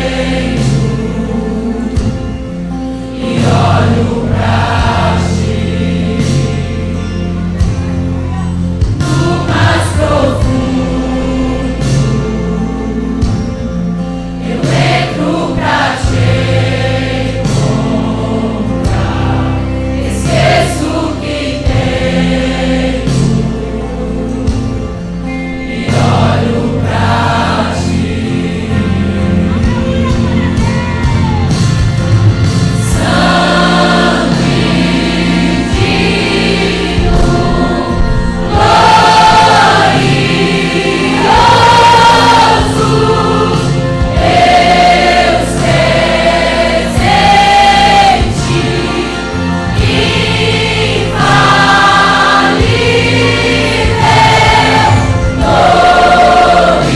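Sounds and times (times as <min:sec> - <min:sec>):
band playing: 0:00.0 - 0:56.9
choir singing gospel: 0:00.0 - 0:56.9.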